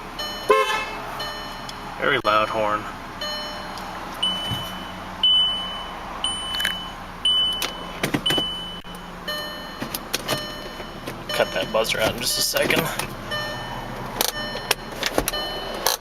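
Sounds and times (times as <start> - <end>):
short high warning beeps: 0.2 - 2.6, 3.2 - 15.8.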